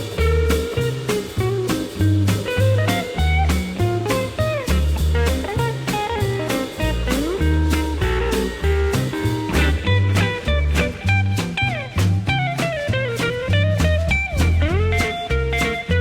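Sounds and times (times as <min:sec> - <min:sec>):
bass: 0:00.0 - 0:16.0
blues guitar with bending notes: 0:00.0 - 0:16.0
steady drum beat: 0:00.0 - 0:16.0.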